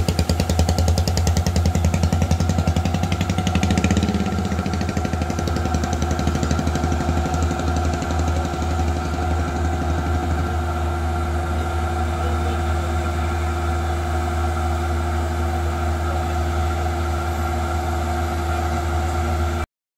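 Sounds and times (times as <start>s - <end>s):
combine harvester engine running: 0.0s - 19.7s.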